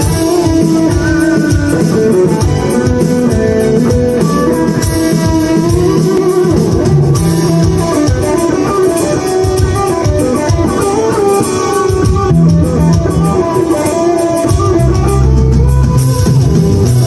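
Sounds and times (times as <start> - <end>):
plucked guitar notes: 0.0 - 17.0
steady beat: 0.0 - 17.0.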